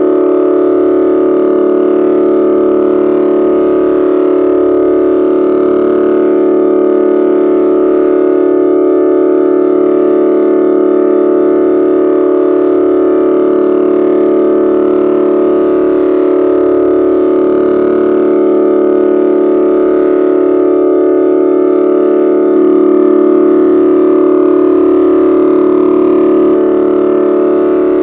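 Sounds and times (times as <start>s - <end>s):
thick electronic drone: 0.0s - 28.0s.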